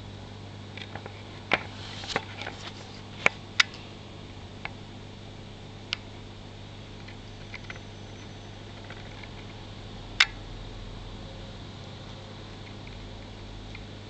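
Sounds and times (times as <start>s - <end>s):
aquarium equipment humming: 0.0s - 14.0s.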